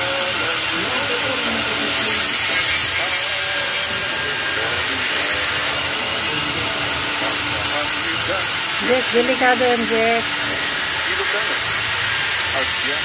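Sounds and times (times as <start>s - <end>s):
faint voices: 0.0s - 11.9s
welding arc hissing: 0.0s - 13.0s.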